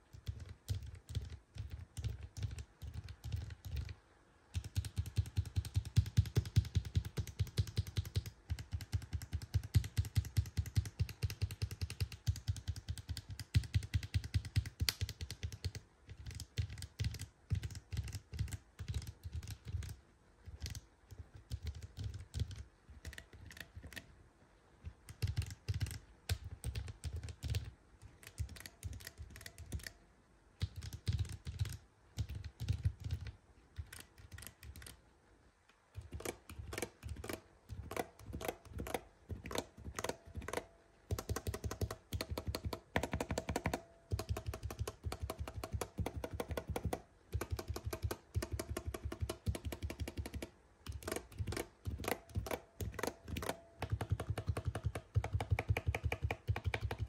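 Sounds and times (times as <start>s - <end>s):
mechanical keyboard typing: 0.0s - 24.1s, 24.9s - 30.0s, 30.6s - 35.0s, 36.0s - 57.0s.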